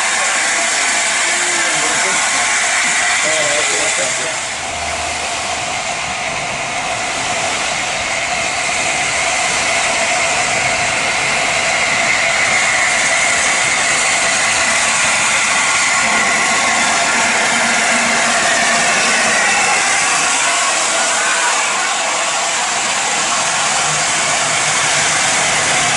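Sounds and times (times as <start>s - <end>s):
steam hissing: 0.0s - 25.9s.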